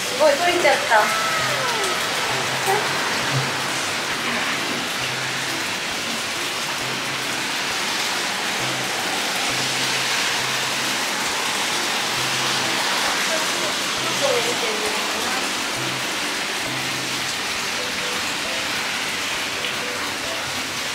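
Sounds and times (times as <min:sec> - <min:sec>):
water pouring from spout: 0:00.0 - 0:20.9.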